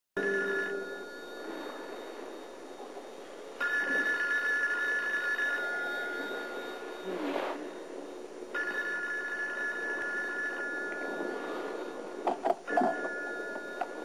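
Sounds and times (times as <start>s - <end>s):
telephone ringing: 0.2s - 14.0s.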